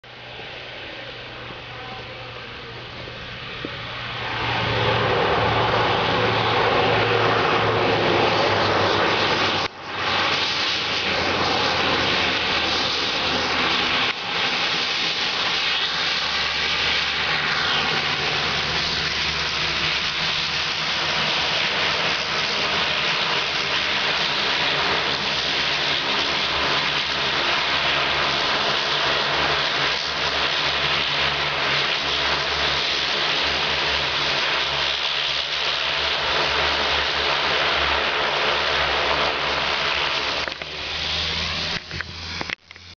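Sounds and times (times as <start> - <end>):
turboprop plane engines whining: 0.0 - 42.9.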